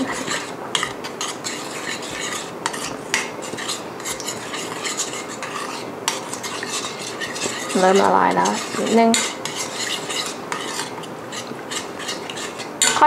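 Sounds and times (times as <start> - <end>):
metal spoon scraping a pan: 0.0 - 13.0.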